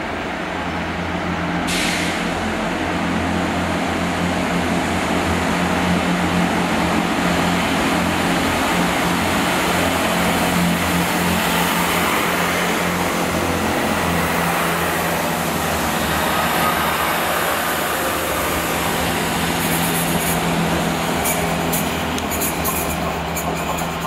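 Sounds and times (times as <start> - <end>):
diesel engines humming: 0.0 - 24.0
train wheels rumbling on track: 0.0 - 24.0.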